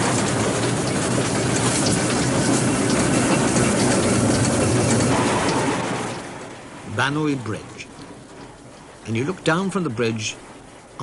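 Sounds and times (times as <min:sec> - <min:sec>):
steam train rattling on track: 0:00.0 - 0:11.0.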